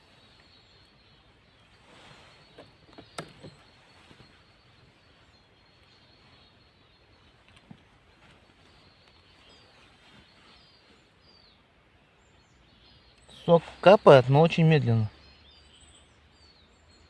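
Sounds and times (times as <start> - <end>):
quiet forest background: 0.0 - 17.0.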